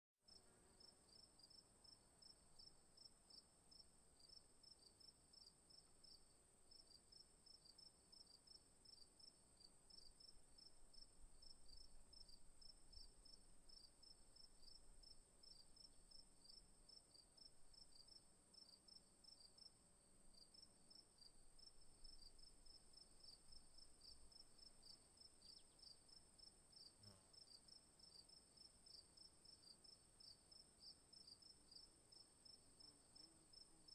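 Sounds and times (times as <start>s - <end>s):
faint crickets chirping: 0.2s - 33.9s.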